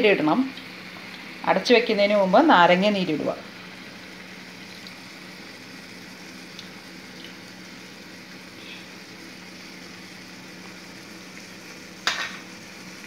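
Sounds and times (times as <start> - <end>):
roast sizzling in gravy: 0.0 - 13.0.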